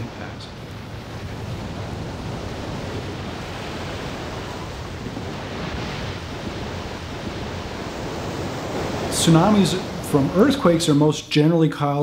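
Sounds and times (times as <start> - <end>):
ocean surf rushing ashore: 0.0 - 12.0.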